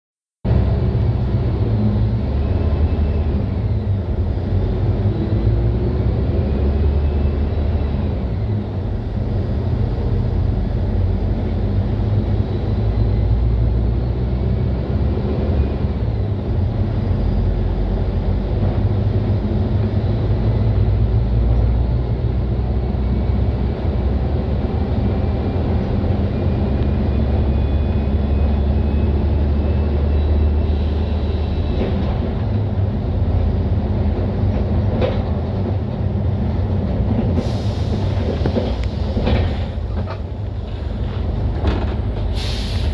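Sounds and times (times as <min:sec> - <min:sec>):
bus diesel engine rumbling: 0:00.4 - 0:42.9.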